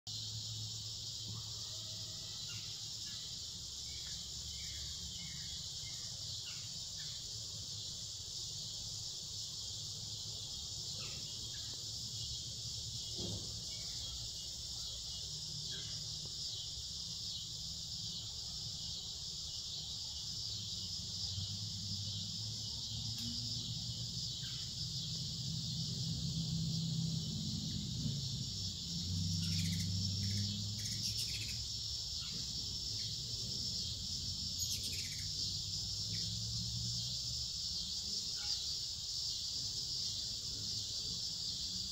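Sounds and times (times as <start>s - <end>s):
faint chirps: 0.1s - 37.1s, 37.7s - 41.9s
insects trilling: 0.1s - 41.9s.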